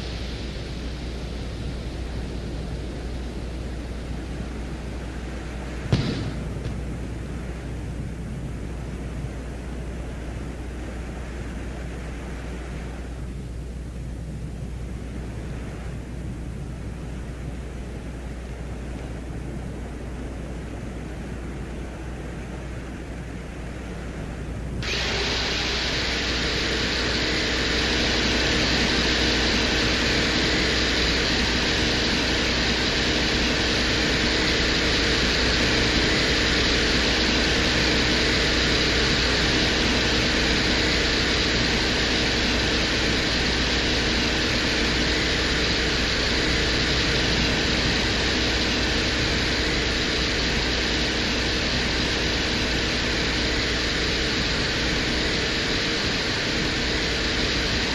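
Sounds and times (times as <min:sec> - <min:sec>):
faint steady tones: 0:00.0 - 0:57.9
low hum: 0:00.0 - 0:57.9
steady static hiss: 0:00.0 - 0:57.9.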